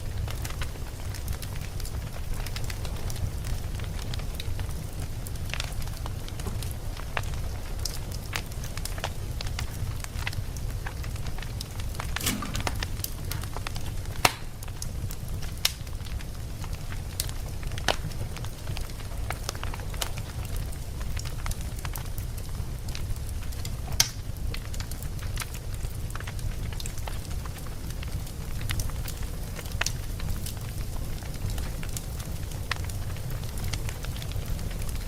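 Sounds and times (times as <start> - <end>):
low rumble of flames: 0.0 - 35.0
wood crackling and popping: 0.0 - 35.0.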